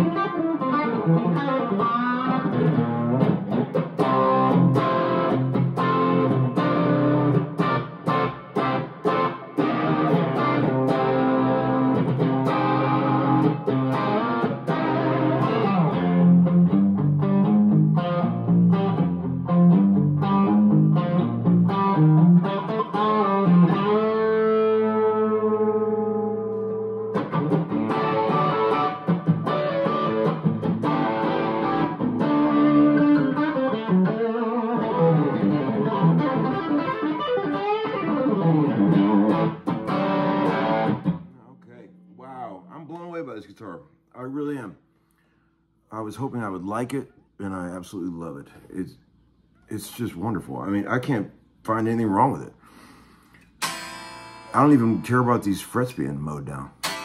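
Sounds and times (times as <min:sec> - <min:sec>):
electric guitar playing: 0:00.0 - 0:43.0, 0:53.4 - 0:56.0, 0:56.8 - 0:57.0.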